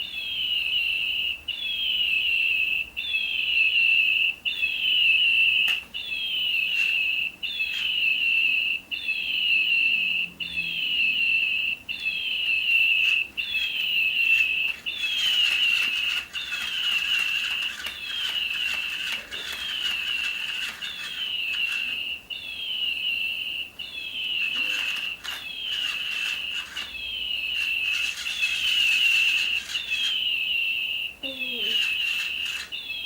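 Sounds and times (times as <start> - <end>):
toy bird chirping: 3.0 - 9.9, 10.8 - 33.0.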